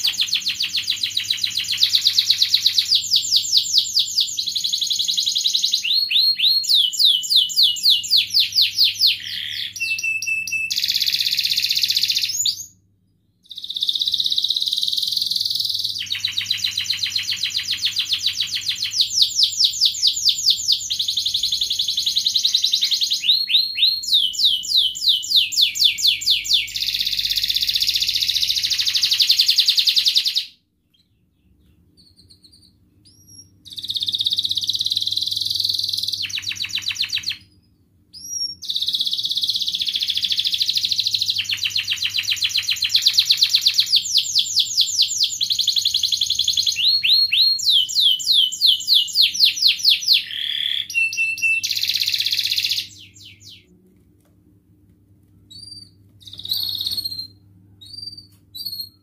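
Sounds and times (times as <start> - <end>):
canary singing trills: 0.0 - 12.8, 13.4 - 53.7, 55.5 - 59.0.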